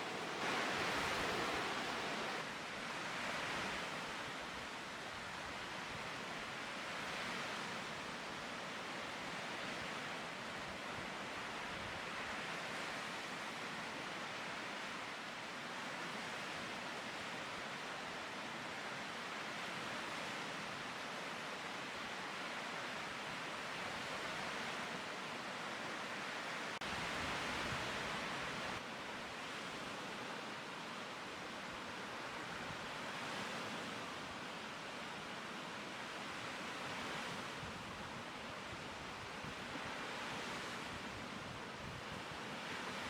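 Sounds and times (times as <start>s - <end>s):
lake waves washing on shore: 0.0s - 15.0s, 21.9s - 43.0s.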